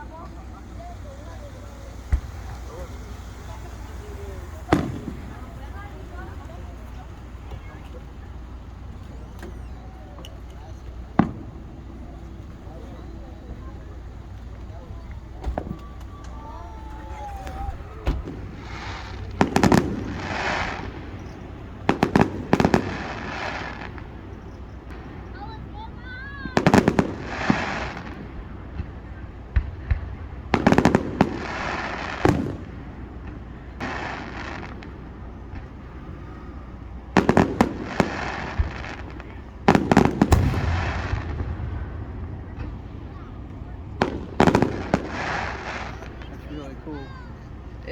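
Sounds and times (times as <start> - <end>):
fireworks bangs: 0.0 - 47.9
fireworks hissing crackle: 0.0 - 47.9.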